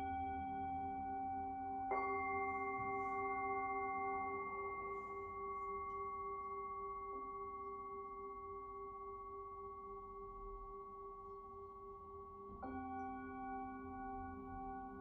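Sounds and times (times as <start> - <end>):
singing bowl ringing: 0.0 - 15.0.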